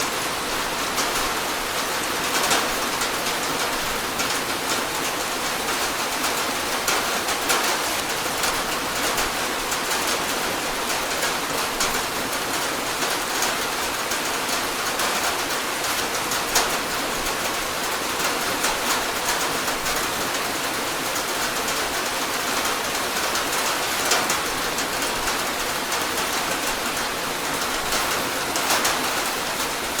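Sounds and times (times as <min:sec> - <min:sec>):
rain on a tin roof: 0:00.0 - 0:30.0.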